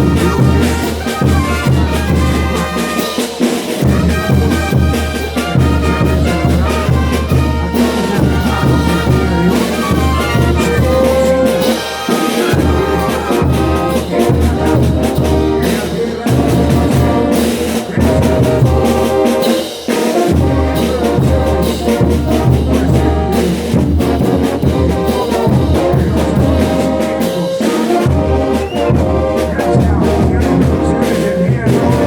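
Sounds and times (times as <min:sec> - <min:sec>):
drums and cymbals: 0:00.0 - 0:32.0
trumpets and trombones: 0:00.0 - 0:32.0.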